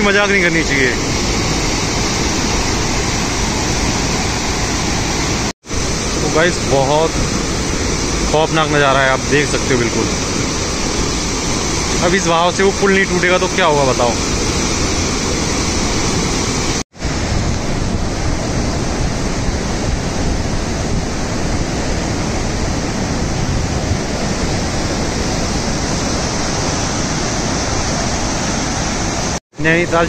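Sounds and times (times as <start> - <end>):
river torrent rushing: 0.0 - 30.0.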